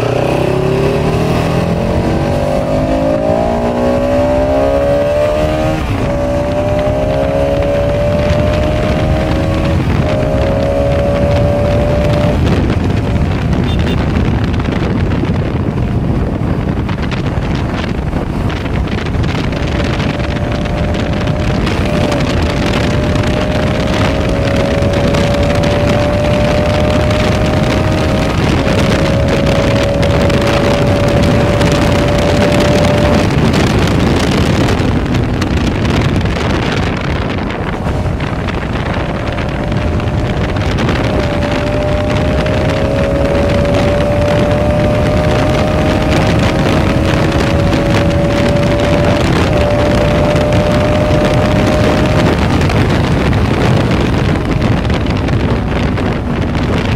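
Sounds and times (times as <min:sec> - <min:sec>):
motorcycle engine accelerating: 0:00.0 - 0:56.9
wind noise on microphone: 0:00.0 - 0:56.9.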